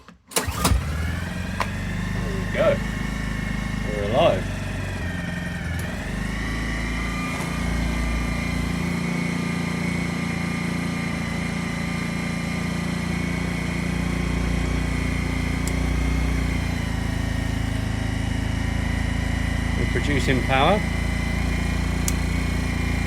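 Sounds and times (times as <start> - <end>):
generator engine running: 0.3 - 23.0.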